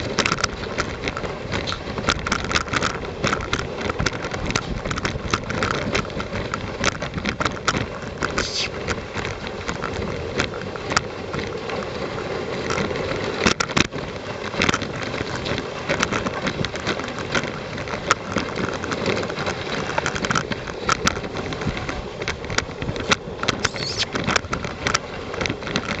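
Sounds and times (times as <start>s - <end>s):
sled clicks and knocks: 0.0s - 26.0s.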